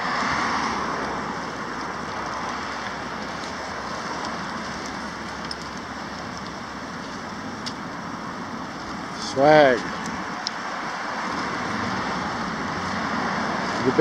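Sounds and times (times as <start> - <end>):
road traffic tyre hiss: 0.0 - 14.0.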